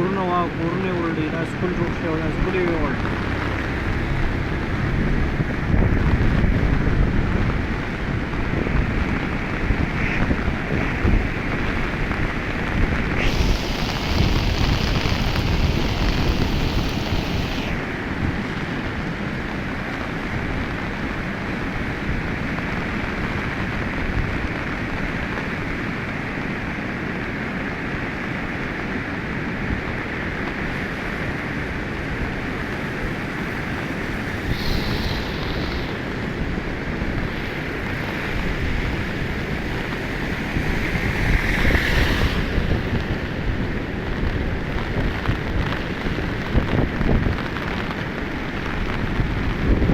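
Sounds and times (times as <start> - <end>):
rushing floodwater: 0.0 - 49.9
wind buffeting microphone: 0.0 - 49.9.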